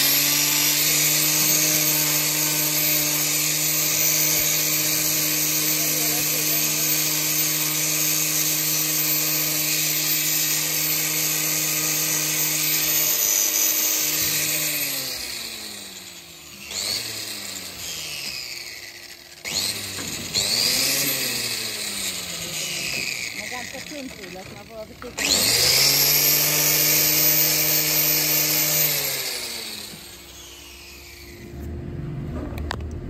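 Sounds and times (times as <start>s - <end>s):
angle grinder whining: 0.0s - 33.0s.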